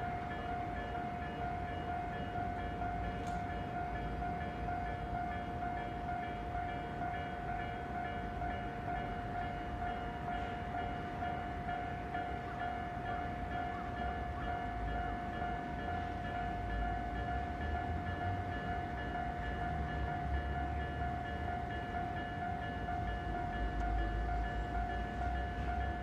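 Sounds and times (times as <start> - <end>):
level-crossing alarm ringing: 0.0 - 26.0
train rumbling: 0.0 - 26.0.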